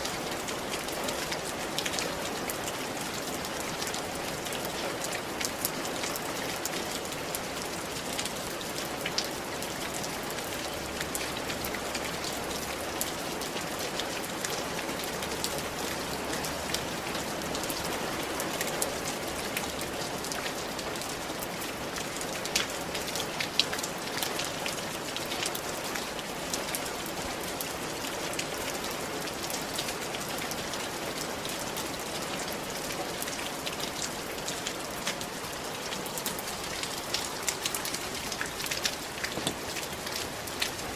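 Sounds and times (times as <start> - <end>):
rain on a tiled roof: 0.0 - 40.9.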